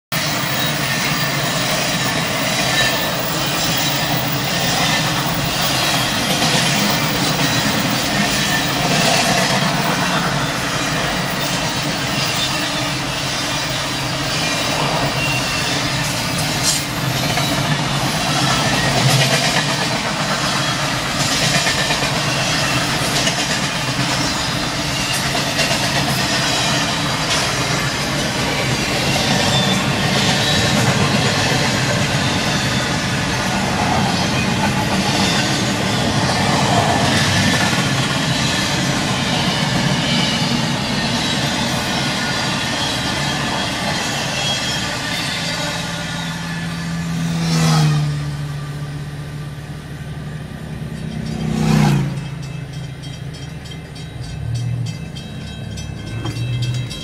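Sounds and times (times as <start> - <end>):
wheels clacking over rail joints: 0.2 - 45.5, 50.1 - 57.0
rumble and rattle of wheels on rails: 0.2 - 57.0.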